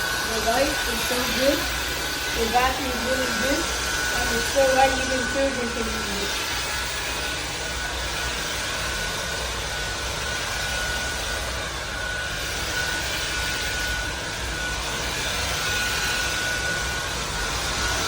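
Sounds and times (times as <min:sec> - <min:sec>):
stick vacuum cleaner running: 0:00.0 - 0:18.0.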